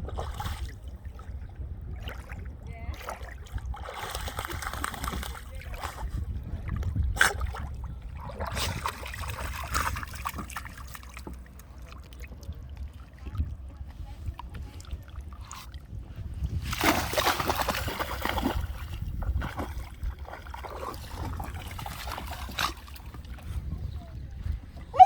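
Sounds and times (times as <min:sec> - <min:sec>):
steady low rumble: 0:00.0 - 0:25.0
water splashing and sloshing: 0:00.0 - 0:25.0.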